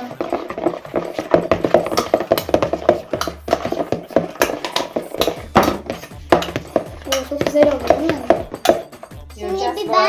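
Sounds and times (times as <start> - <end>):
clicks and scrapes against bowl: 0.0 - 9.1
spoons stirring sticky mix: 0.0 - 10.0.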